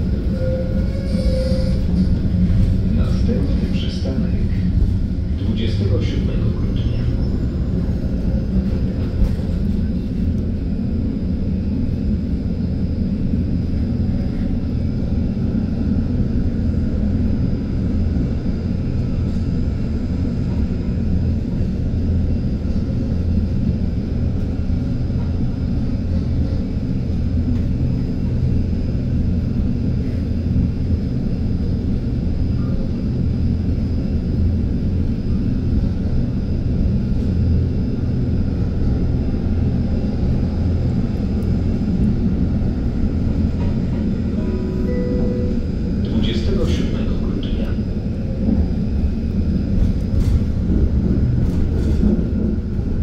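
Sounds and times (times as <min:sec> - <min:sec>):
city street rumble: 0:00.0 - 0:53.0.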